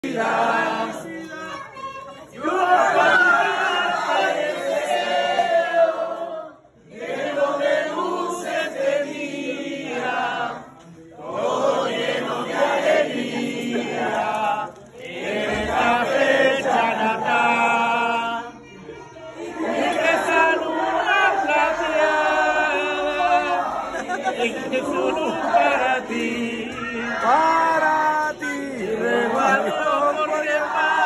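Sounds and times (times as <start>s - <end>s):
group of people singing: 0.0s - 31.0s.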